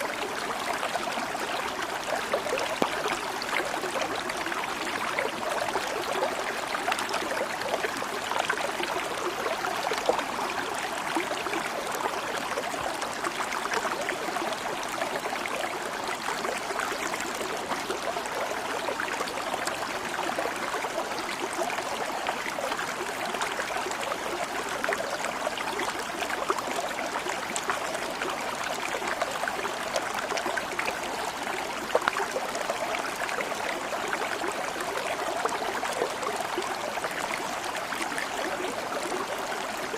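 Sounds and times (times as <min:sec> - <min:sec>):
stream of water flowing: 0:00.0 - 0:39.9.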